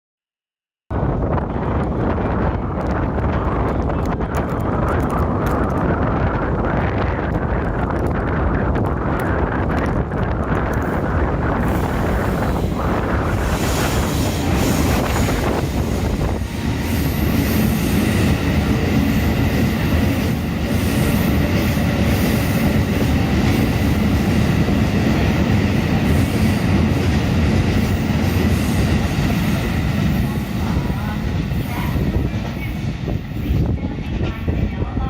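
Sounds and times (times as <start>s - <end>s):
steel wheels rumbling on rail: 0.9s - 35.0s
clickety-clack over rail joints: 1.6s - 35.0s.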